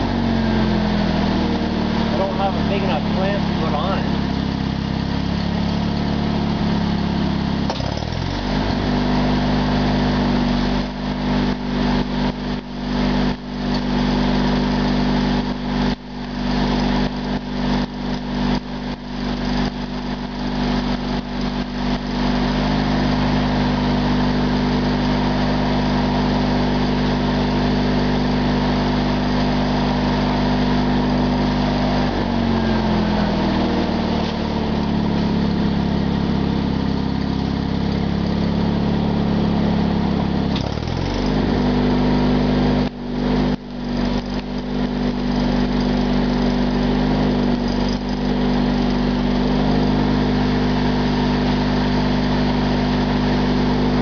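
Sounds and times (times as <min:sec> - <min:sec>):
small engine running: 0:00.0 - 0:54.0
welding arc crackling: 0:00.0 - 0:54.0.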